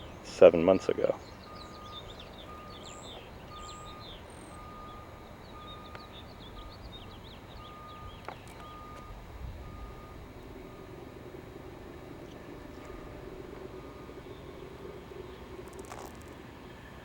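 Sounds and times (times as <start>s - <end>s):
birds chirping: 0.0s - 17.0s
reversing alarm beeping: 0.0s - 17.0s
low background rumble: 1.2s - 17.0s.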